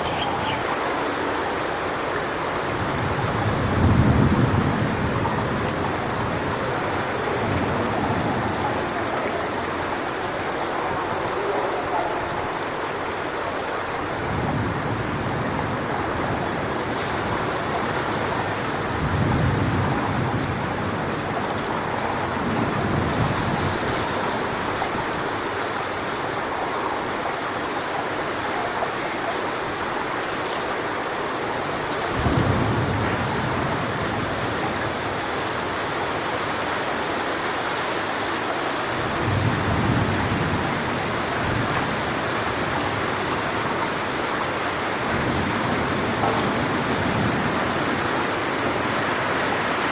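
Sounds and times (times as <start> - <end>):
wind gusts buffeting microphone: 0.0 - 49.9
wind rushing through palm fronds: 0.0 - 49.9.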